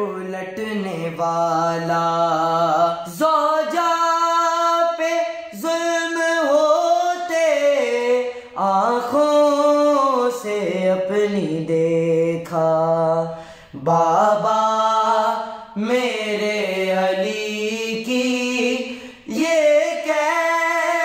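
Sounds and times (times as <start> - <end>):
male voices singing lament: 0.0 - 21.0.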